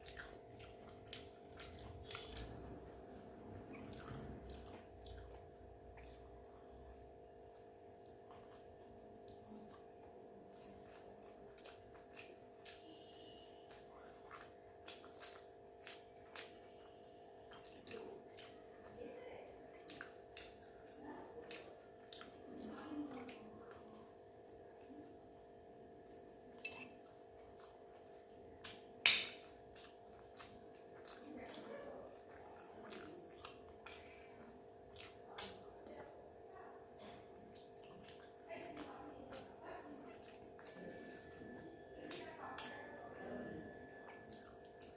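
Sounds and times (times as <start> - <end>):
person chewing: 0.0 - 19.0, 19.7 - 44.9
steady low hum: 0.0 - 44.9.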